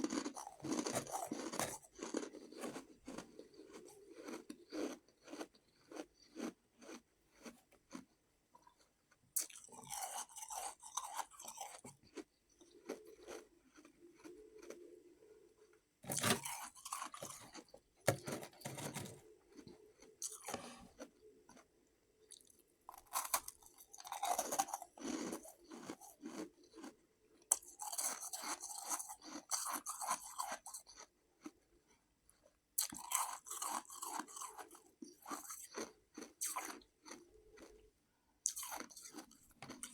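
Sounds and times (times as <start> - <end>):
ice being chewed: 0.0 - 15.0, 16.0 - 37.8, 38.4 - 39.9.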